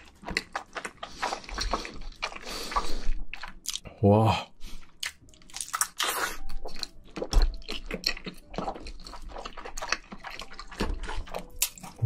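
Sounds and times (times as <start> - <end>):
wet chewing: 0.0 - 3.9, 4.6 - 12.0.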